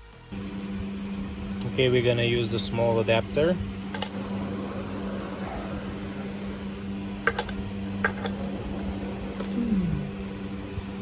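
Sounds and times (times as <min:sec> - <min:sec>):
steady hum: 0:00.3 - 0:11.0.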